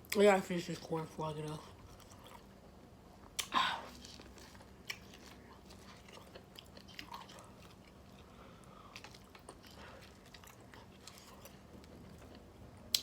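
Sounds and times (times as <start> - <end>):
chewing corn on the cob: 1.5 - 2.5, 3.4 - 13.0.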